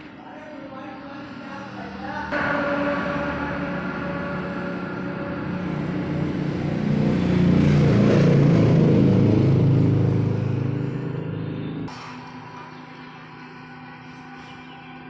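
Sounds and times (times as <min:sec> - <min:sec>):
passing vehicle engine rumble: 0:00.0 - 0:13.8.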